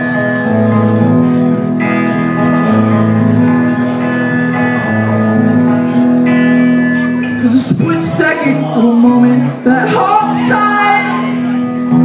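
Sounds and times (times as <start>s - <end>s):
electric guitar chords: 0.0s - 12.0s
rock band playing: 0.0s - 12.0s.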